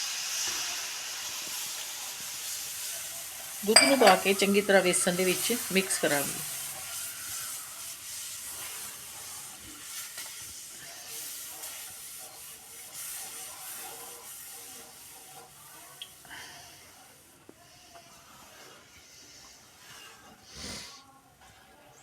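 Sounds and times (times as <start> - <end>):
milk sizzling in hot pan: 0.0 - 22.0.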